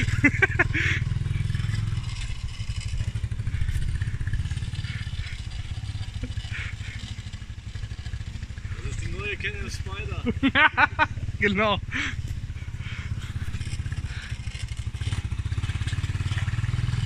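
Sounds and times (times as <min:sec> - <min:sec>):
quad bike engine putter: 0:00.0 - 0:17.0.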